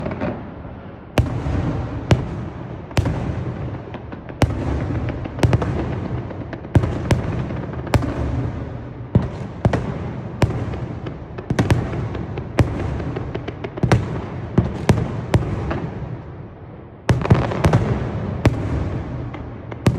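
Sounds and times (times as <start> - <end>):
aerial fireworks bangs: 1.2 - 16.2, 17.1 - 19.9.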